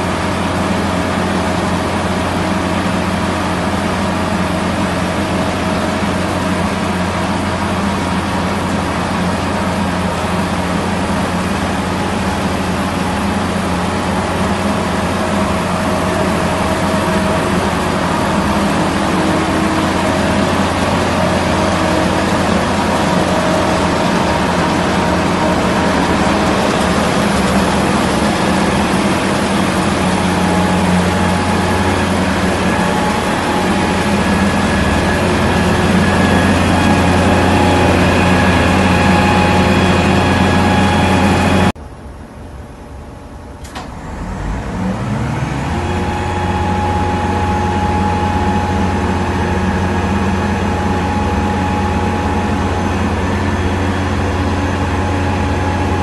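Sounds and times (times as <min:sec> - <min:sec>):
diesel engine idling: 0:00.0 - 0:41.8, 0:43.4 - 0:56.0.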